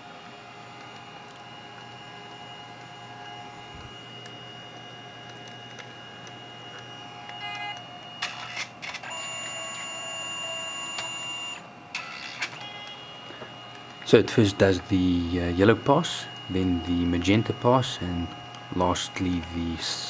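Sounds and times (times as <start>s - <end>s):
printer mechanism whine: 0.0s - 20.0s.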